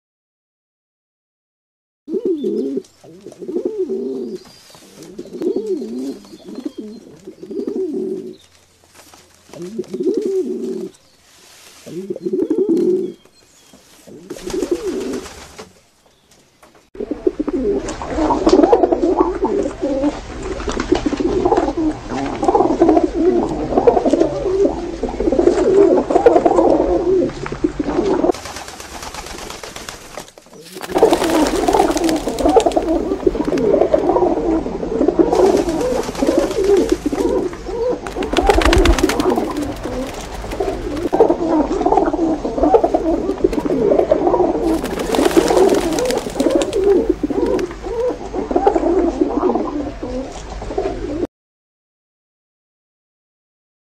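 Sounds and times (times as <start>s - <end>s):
pigeons cooing: 2.1s - 8.5s, 9.5s - 11.0s, 11.8s - 13.2s, 14.1s - 15.5s, 17.0s - 29.4s, 30.6s - 51.3s.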